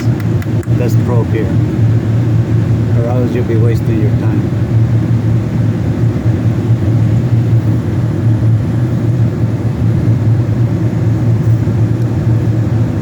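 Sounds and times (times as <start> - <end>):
cooler fans humming: 0.0 - 13.0.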